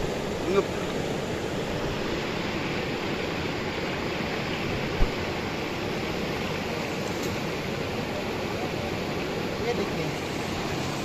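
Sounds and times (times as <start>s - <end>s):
river water over rocks: 0.0s - 11.0s.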